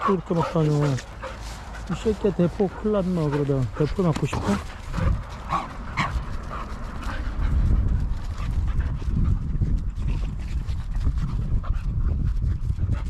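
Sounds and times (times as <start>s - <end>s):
dogs panting: 0.0s - 13.0s
steady low rumble: 0.0s - 13.0s.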